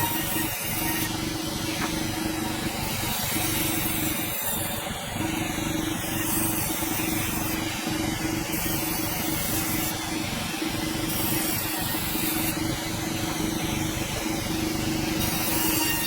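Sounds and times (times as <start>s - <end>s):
sawmill running: 0.0s - 16.0s.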